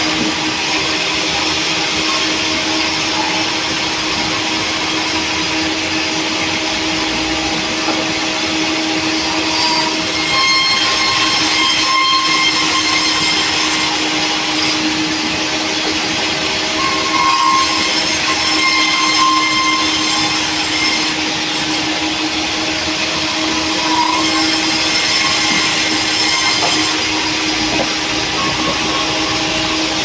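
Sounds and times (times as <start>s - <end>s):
sawmill machine drone: 0.0s - 30.0s.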